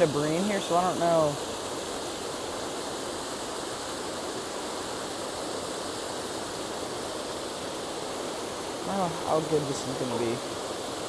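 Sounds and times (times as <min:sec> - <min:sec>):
water rushing into pool: 0:00.0 - 0:11.0.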